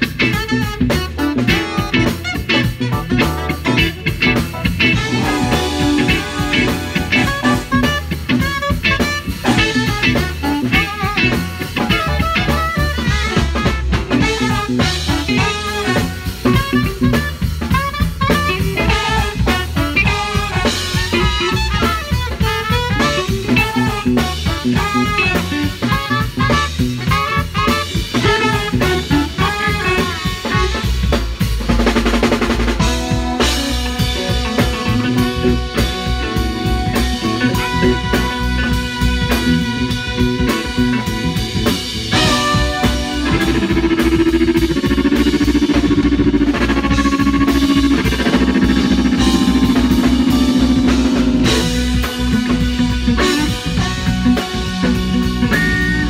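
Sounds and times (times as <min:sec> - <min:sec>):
drum kit: 0:00.0 - 0:56.0
electric bass: 0:00.0 - 0:56.0
saxophone: 0:00.0 - 0:56.0
trumpet: 0:00.0 - 0:56.0.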